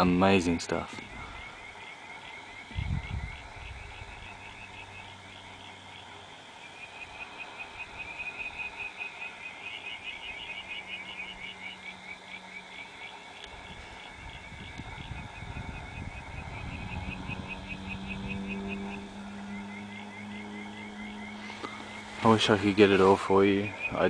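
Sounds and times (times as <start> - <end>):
frogs or insects trilling: 0.0 - 24.0.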